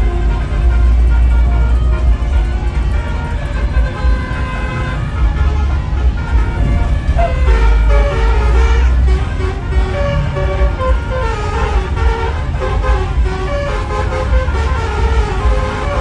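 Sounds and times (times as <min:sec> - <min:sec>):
heavy low rumble: 0:00.0 - 0:16.0
musical bus air horns: 0:00.0 - 0:16.0.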